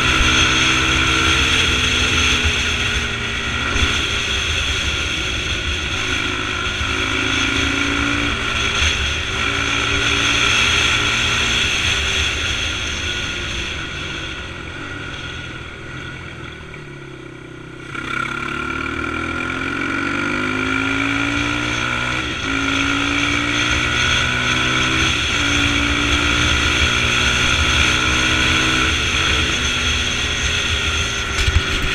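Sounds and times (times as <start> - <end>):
dirt bike engine revving: 0.0 - 15.4, 17.8 - 31.9.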